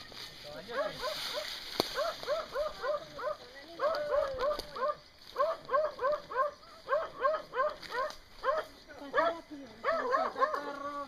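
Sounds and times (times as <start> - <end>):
dog barking: 0.7 - 10.7.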